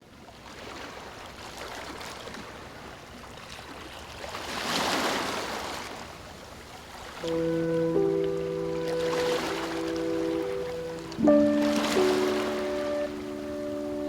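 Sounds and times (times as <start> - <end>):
ocean waves washing onto beach: 0.3 - 14.0.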